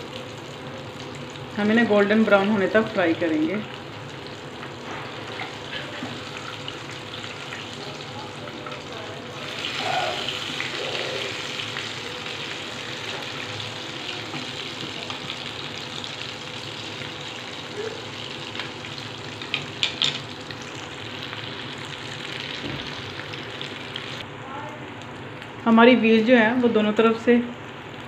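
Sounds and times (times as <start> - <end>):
food frying in hot oil: 0.0 - 28.0.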